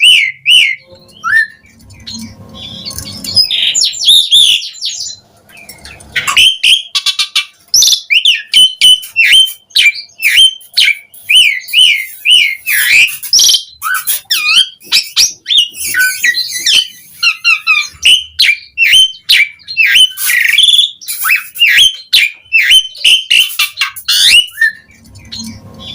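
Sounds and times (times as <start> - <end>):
bird clicks and harsh chatter: 0.0 - 25.9
starling singing whistled notes: 0.0 - 25.9.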